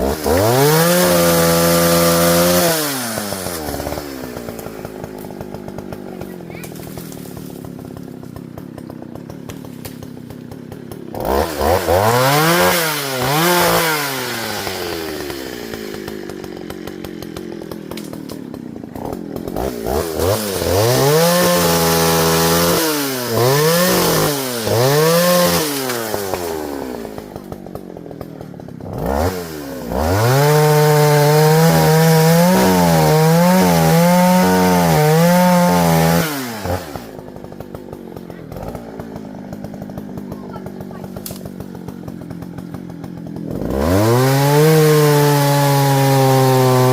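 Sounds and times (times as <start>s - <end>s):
chainsaw idling and revving: 0.0s - 46.9s.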